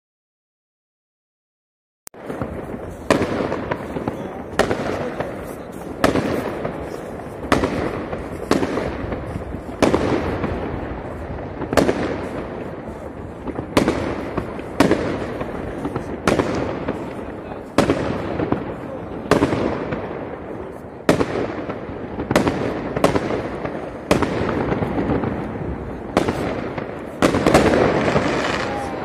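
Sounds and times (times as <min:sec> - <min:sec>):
firework bangs with echo: 0:02.2 - 0:29.0
fireworks crackling and rumbling: 0:02.2 - 0:29.0.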